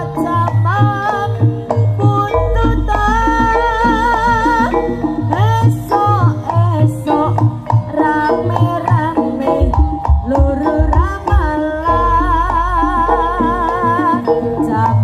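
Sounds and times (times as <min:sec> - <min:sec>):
drum beats: 0:00.0 - 0:15.0
wavering sliding melody: 0:00.0 - 0:15.0.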